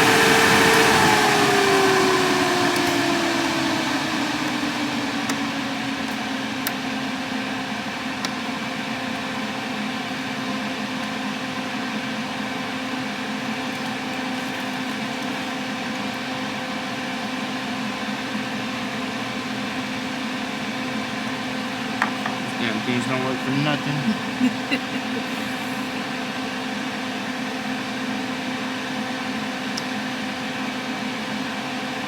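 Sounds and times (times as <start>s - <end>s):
mechanical hum: 0.0s - 32.0s.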